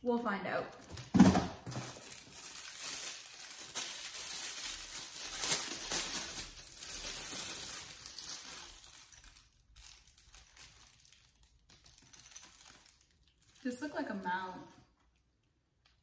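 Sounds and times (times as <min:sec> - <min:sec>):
plastic bag crinkling: 0:00.8 - 0:15.4.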